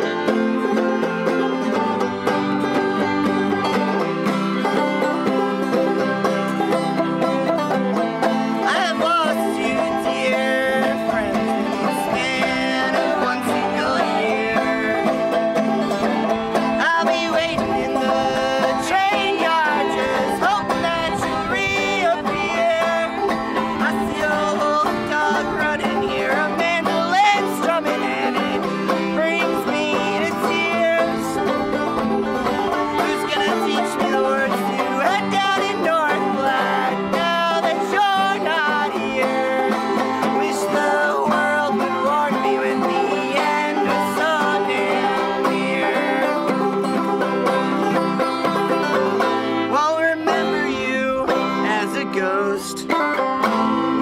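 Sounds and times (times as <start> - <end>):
acoustic guitar: 0.0 - 54.0
picked banjo: 0.0 - 54.0.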